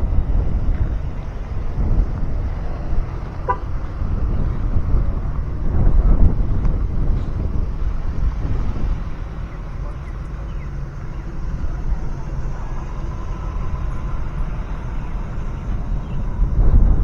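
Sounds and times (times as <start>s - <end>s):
car engine running: 0.0s - 17.0s
wind buffeting microphone: 0.0s - 17.0s.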